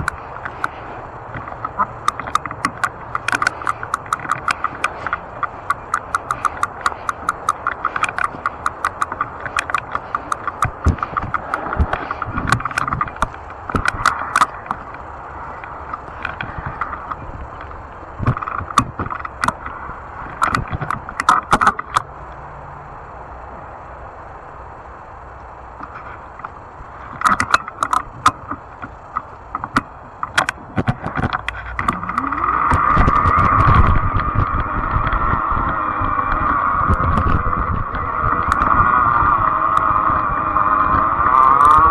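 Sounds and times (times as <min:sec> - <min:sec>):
e-bike rattling and clicking: 0:00.0 - 0:22.4, 0:24.7 - 0:41.9
e-bike running noise: 0:00.0 - 0:41.9.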